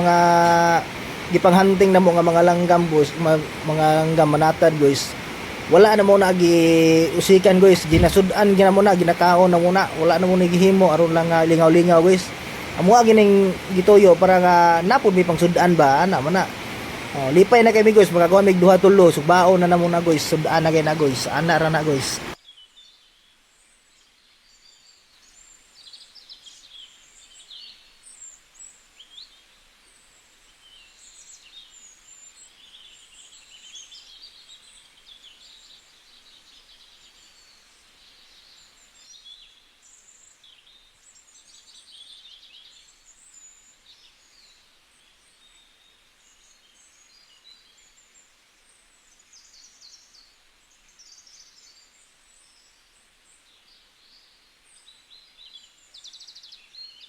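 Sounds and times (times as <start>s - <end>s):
small birds chirping: 0.0s - 23.4s, 30.6s - 57.0s.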